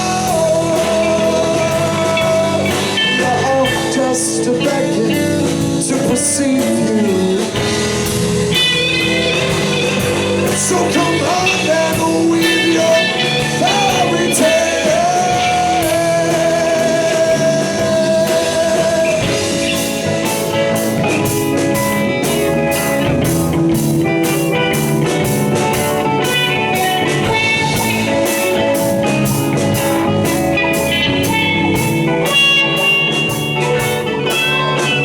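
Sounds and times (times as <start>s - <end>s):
rock band playing: 0.0s - 35.0s.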